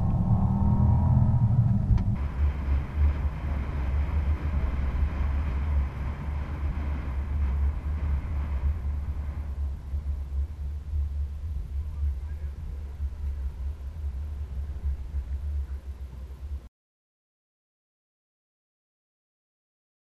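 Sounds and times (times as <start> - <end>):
deep in-cabin hum: 0.0 - 16.7
wind and road noise rumble: 0.0 - 16.7.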